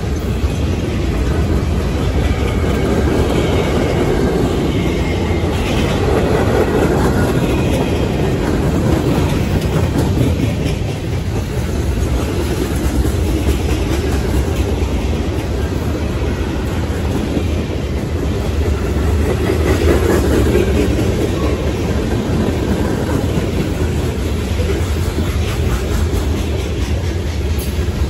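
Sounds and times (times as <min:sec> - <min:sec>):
train wheels rumbling on rails: 0:00.0 - 0:28.0
wheels clickety-clack over joints: 0:00.0 - 0:28.0.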